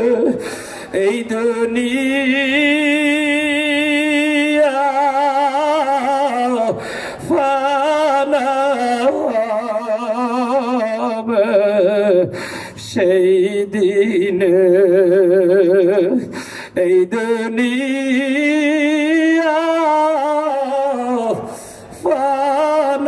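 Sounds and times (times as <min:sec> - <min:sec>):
man chanting with vibrato: 0:00.0 - 0:23.0.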